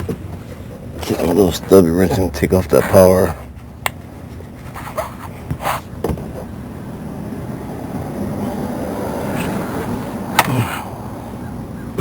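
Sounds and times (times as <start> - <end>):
steady rumbling noise: 0.0 - 12.0.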